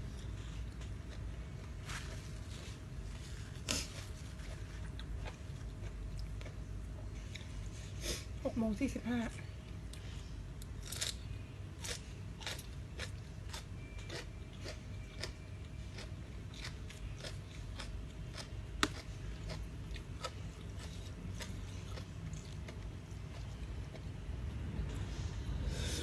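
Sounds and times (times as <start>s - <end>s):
crunchy chewing: 0.0s - 7.7s, 9.9s - 25.0s.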